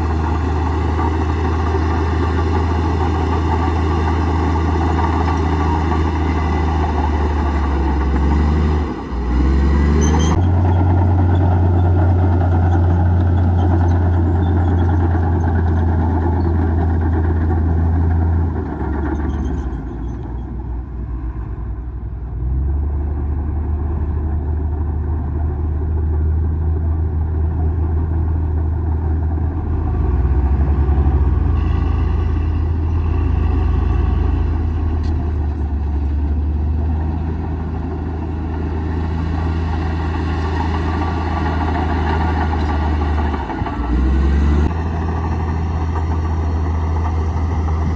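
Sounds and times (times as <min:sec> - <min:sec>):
bulldozer diesel engine: 0:00.0 - 0:47.9.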